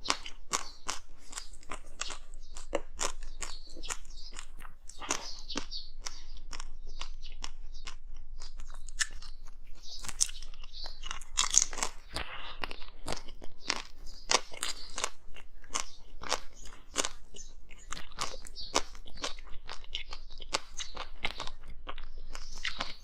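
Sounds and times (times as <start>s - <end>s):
chewing hard ice crunching: 0.0s - 23.0s.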